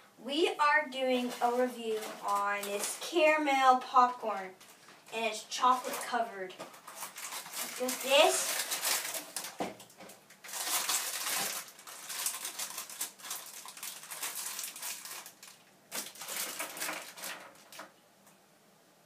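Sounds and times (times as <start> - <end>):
plastic bag crinkling: 0.9 - 18.0.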